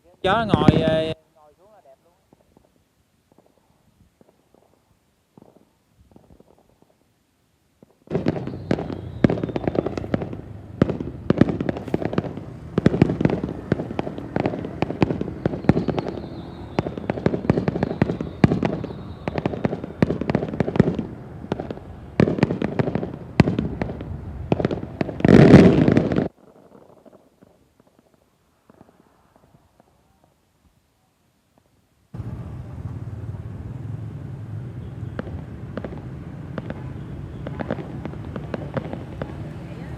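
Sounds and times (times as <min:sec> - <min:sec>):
fireworks bangs and crackles: 0:00.0 - 0:07.2, 0:07.8 - 0:30.8, 0:31.5 - 0:39.9.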